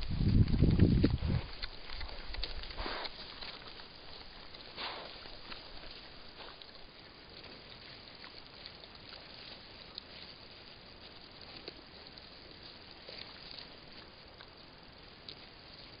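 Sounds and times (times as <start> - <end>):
faint rustles: 0.0 - 16.0
steady hiss: 0.0 - 16.0.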